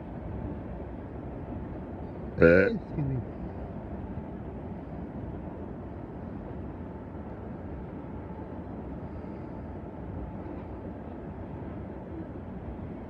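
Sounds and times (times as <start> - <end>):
freight train cars rumbling: 0.0 - 13.0.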